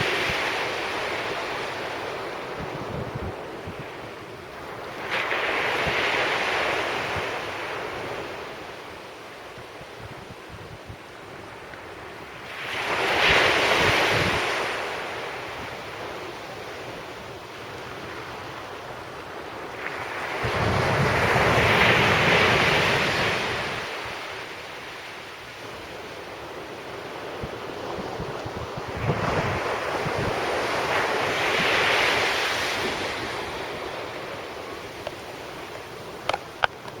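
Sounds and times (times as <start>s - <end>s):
wind on microphone: 0.0s - 16.1s, 19.8s - 24.4s, 25.5s - 37.0s
surf breaking on a beach: 0.0s - 37.0s.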